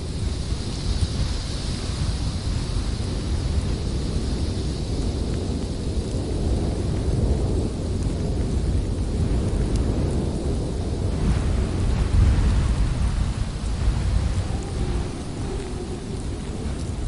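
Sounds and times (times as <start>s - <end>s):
blizzard wind rumbling: 0.0s - 17.0s.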